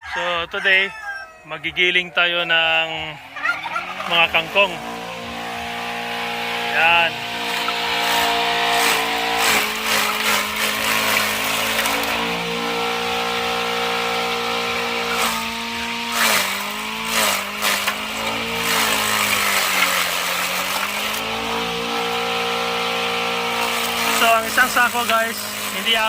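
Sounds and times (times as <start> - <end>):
shredder motor humming: 2.6 - 26.0
stalks crackling: 3.2 - 26.0.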